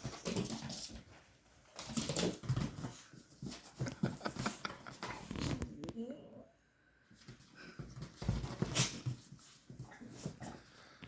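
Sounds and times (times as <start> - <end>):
dogs scuffling: 0.0 - 5.6, 7.2 - 11.0.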